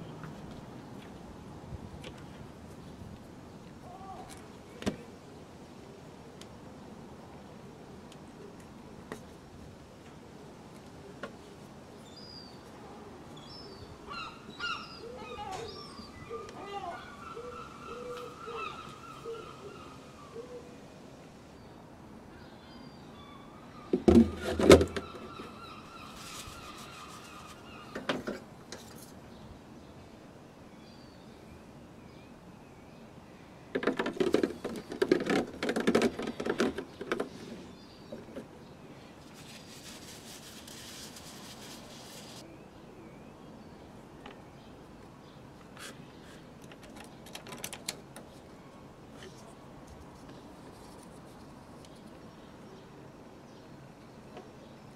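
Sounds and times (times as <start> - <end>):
low steady hiss: 0.0 - 54.9.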